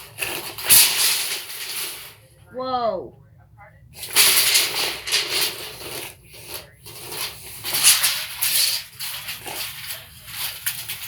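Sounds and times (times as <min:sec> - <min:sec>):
rubbing and scraping: 0:00.0 - 0:02.4, 0:04.0 - 0:11.0.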